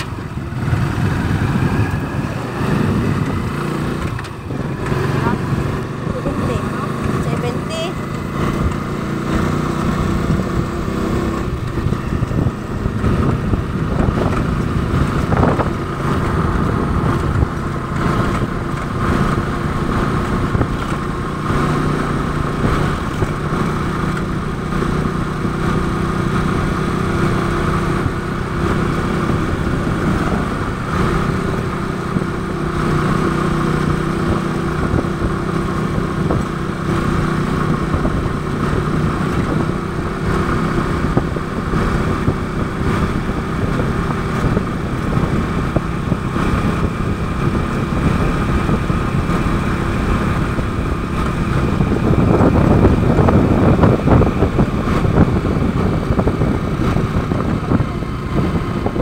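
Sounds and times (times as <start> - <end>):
small engine running: 0.0 - 59.0
tyre road noise: 0.0 - 59.0
wind rumble: 0.0 - 59.0.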